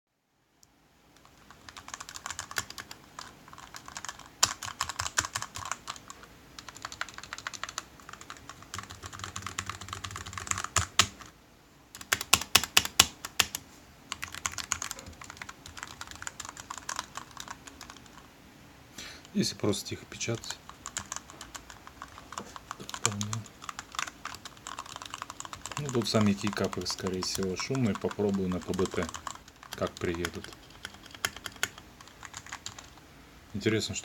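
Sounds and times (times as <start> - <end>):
mechanical keyboard clacking: 1.2 - 11.3, 12.0 - 18.2, 20.4 - 32.9.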